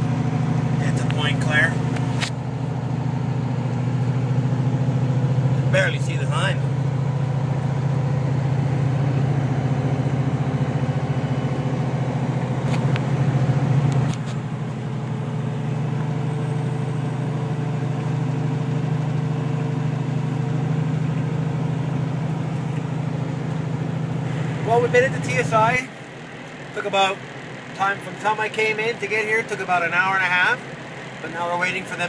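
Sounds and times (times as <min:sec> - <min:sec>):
truck diesel engine hum: 0:00.0 - 0:32.0.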